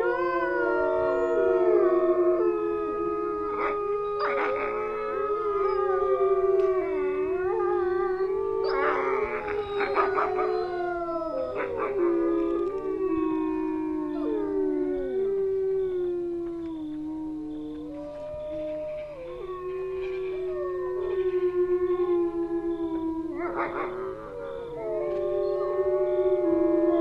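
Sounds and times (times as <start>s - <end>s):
rough noisy wolf calls: 0.0s - 27.0s
wolves howling: 0.0s - 27.0s.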